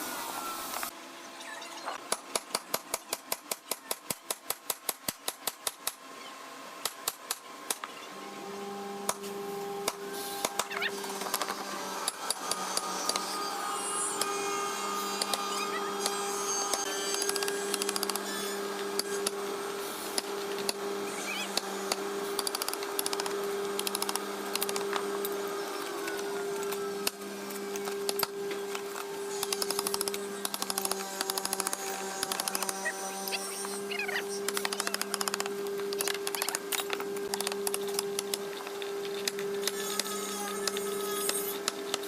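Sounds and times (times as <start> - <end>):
motor hum: 5.4 - 42.0.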